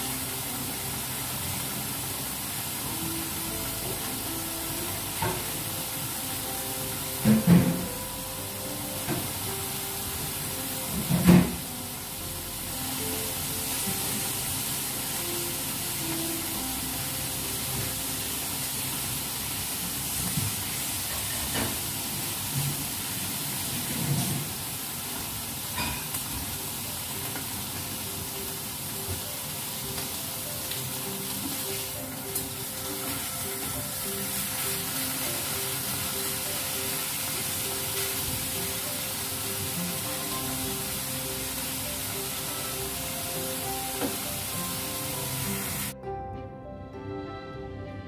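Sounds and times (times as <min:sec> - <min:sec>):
food sizzling in frying pans: 0:00.0 - 0:46.0.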